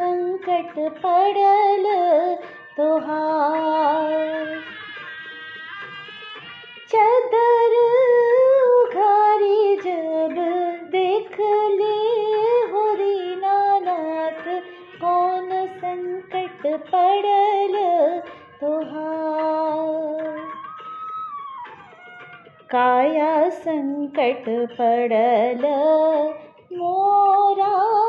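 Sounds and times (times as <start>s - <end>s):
woman singing a folk song: 0.0s - 4.7s, 6.9s - 20.7s, 22.7s - 28.0s.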